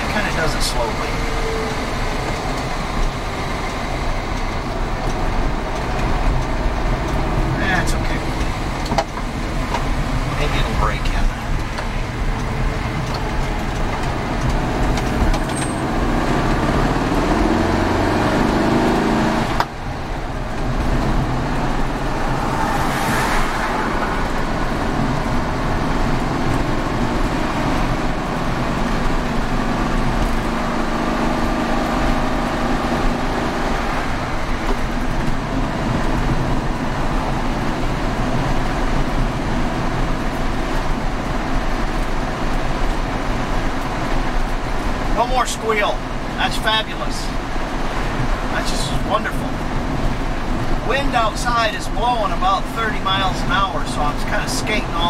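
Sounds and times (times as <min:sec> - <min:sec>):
car engine accelerating through gears: 0:00.0 - 0:45.2
road noise: 0:00.0 - 0:55.0.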